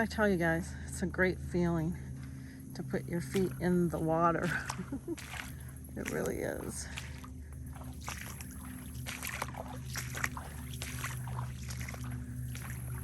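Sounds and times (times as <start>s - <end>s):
steady low hum: 0.0s - 13.0s
feet sloshing through water: 1.5s - 13.0s.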